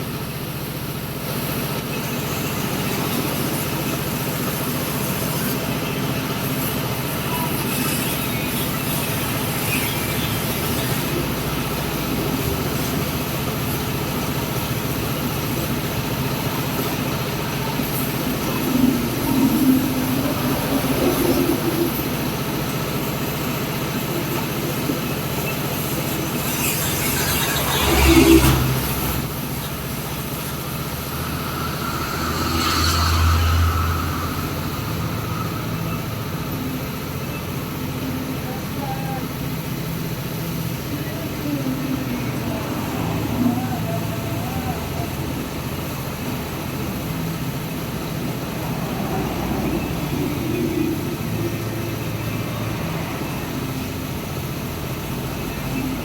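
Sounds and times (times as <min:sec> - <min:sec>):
motor running with low drone: 0:00.0 - 0:56.0.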